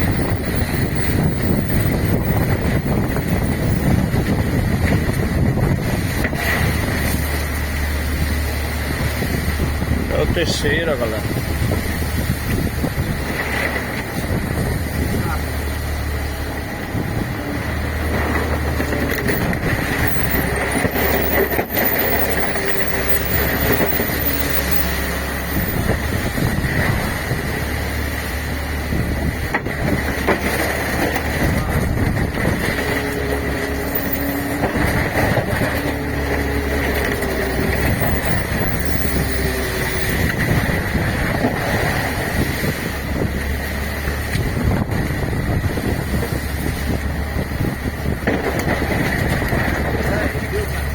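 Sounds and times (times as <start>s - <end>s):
boat engine running: 0.0s - 50.9s
constant high whine: 0.0s - 50.9s
wind buffeting microphone: 0.0s - 50.9s.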